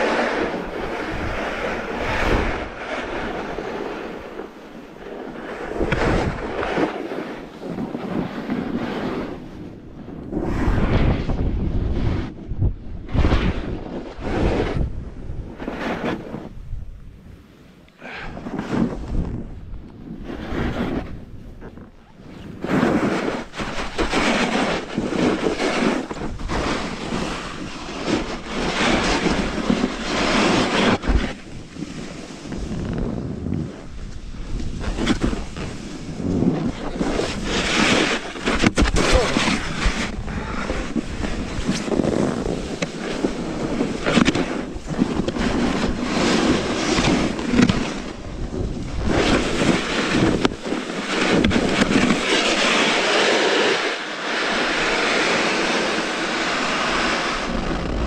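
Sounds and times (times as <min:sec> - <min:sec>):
snowboard scraping snow: 0:00.0 - 0:58.0
wind buffeting microphone: 0:00.0 - 0:58.0.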